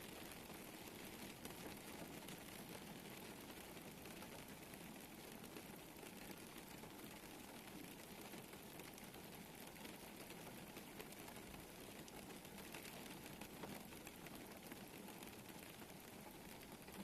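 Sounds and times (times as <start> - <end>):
faint rain: 0.0 - 17.0.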